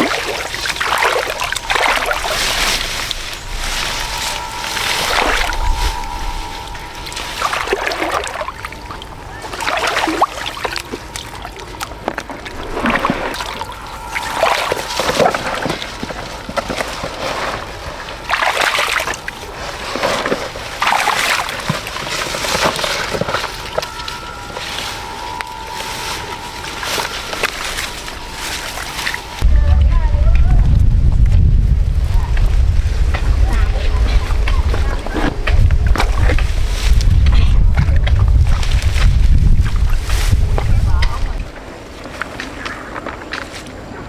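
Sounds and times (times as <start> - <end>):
water splashing and sloshing: 0.0 - 44.0.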